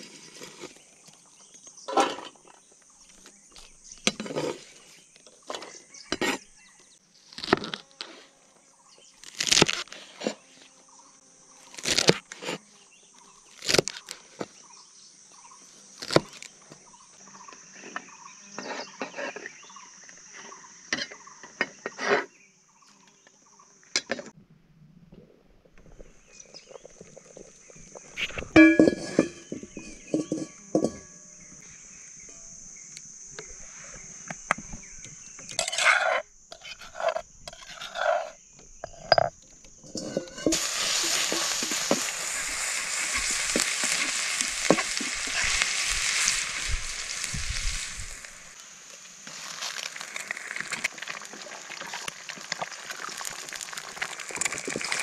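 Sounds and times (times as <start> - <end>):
insects droning: 0.0 - 24.4, 25.8 - 55.0.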